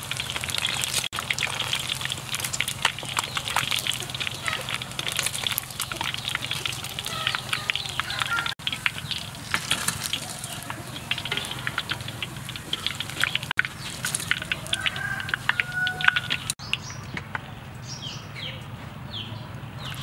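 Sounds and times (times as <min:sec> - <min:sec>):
oil crackling and sizzling: 0:00.0 - 0:17.0.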